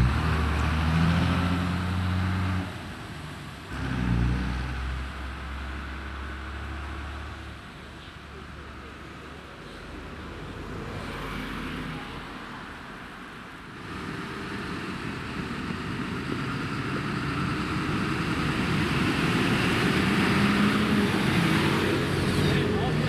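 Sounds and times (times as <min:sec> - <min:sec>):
vehicle engine and tyre noise: 0:00.0 - 0:23.0.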